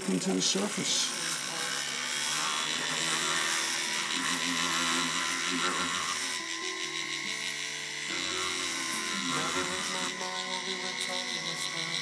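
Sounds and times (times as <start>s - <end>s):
rotary tool whine: 0.0s - 12.0s.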